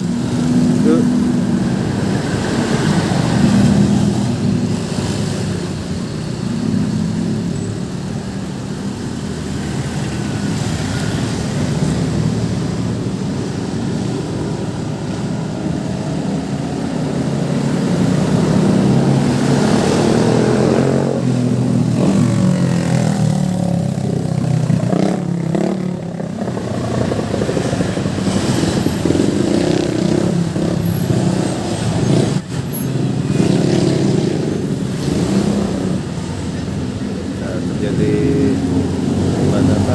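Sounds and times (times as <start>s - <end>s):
vehicle engines passing: 0.0s - 39.9s.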